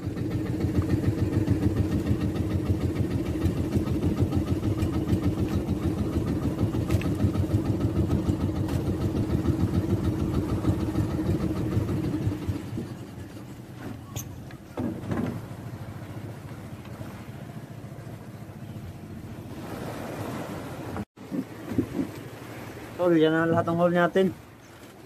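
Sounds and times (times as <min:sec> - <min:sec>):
boat engine chugging: 0:00.0 - 0:25.0.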